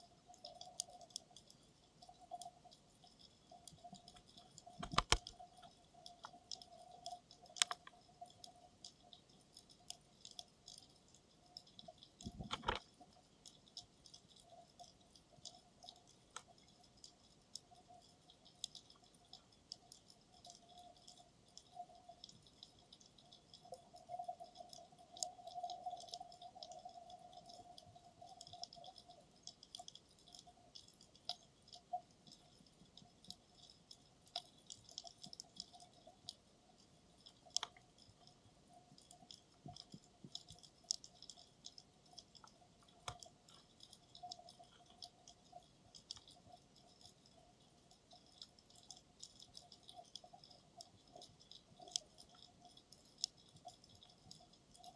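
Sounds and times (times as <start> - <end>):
underwater crackle of clicks: 0.0 - 54.9.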